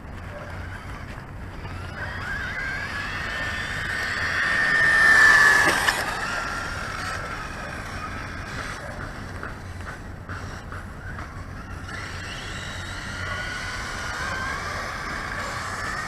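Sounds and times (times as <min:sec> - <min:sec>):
electric toy car motor whine: 0:00.0 - 0:16.0.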